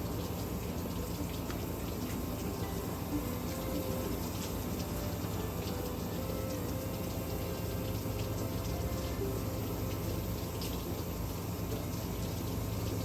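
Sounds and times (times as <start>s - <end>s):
water spraying: 0.0s - 13.0s.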